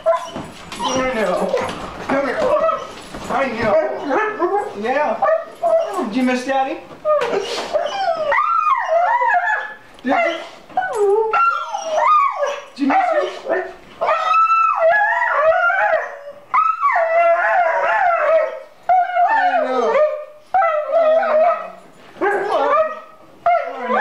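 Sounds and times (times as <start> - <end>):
dog howling and whining: 0.0 - 6.2, 7.0 - 24.0.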